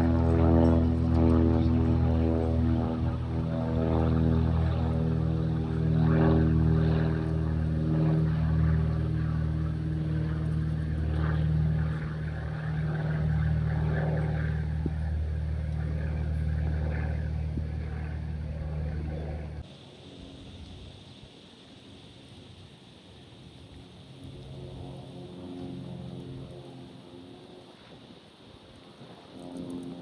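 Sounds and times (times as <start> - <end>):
aircraft engine drone: 0.0 - 30.0.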